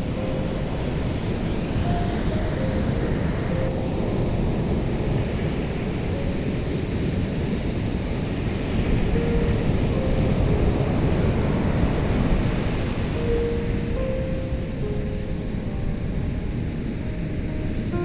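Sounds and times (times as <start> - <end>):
ocean waves washing in: 0.0 - 18.0.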